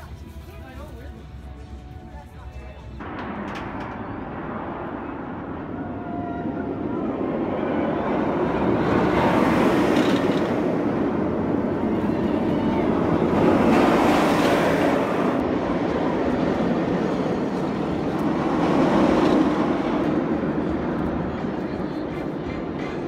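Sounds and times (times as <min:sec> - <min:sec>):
roller coaster rumbling on track: 0:00.0 - 0:23.0.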